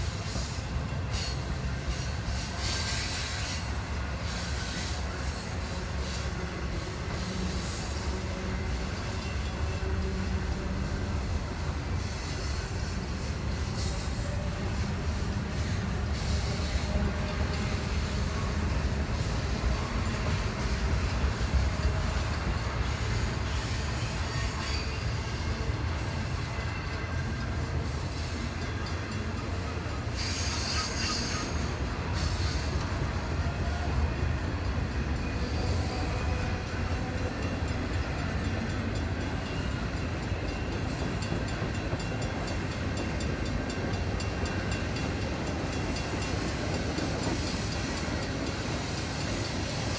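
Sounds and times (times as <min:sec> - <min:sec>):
freight train rumbling past: 0:00.0 - 0:49.9.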